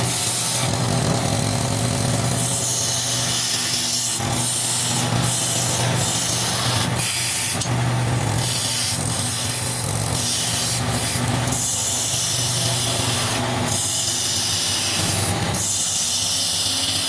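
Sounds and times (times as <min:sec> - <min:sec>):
chisel hissing on spinning wood: 0:00.0 - 0:17.0
lathe motor hum: 0:00.0 - 0:17.0.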